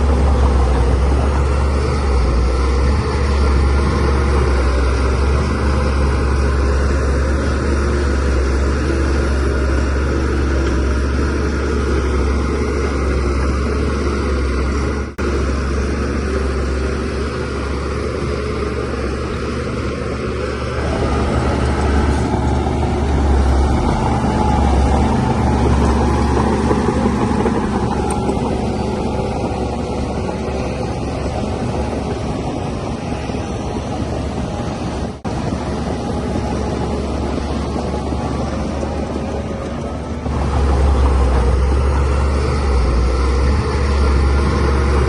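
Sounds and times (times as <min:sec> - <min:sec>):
bulldozer diesel engine rumbling: 0:00.0 - 0:45.0.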